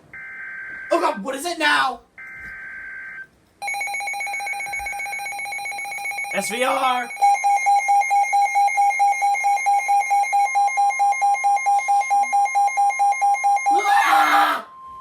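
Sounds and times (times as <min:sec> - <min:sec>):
two-tone electronic alarm beeping: 0:00.2 - 0:01.1, 0:02.2 - 0:15.0.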